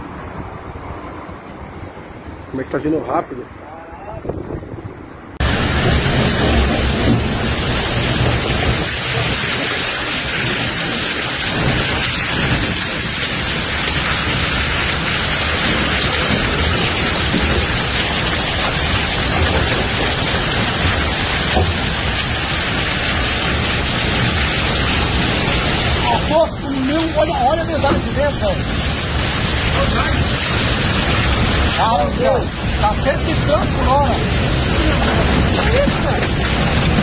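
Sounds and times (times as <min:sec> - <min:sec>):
hail and heavy rain pelting: 0:05.4 - 0:37.0.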